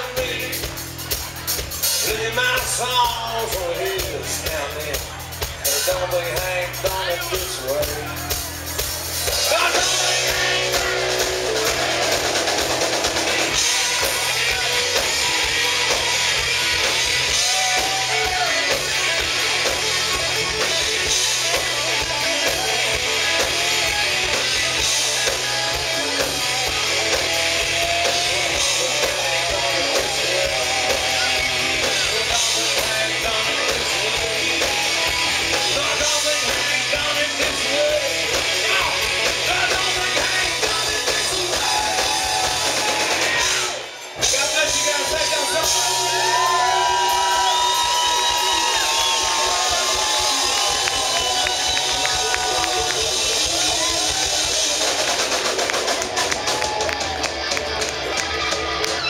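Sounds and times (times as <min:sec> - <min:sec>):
live rock band playing: 0:00.0 - 0:59.0
wavering lead guitar: 0:00.0 - 0:59.0.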